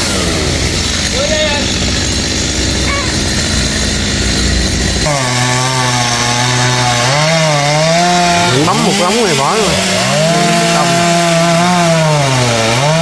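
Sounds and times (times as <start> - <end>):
chainsaw running: 0.0 - 13.0.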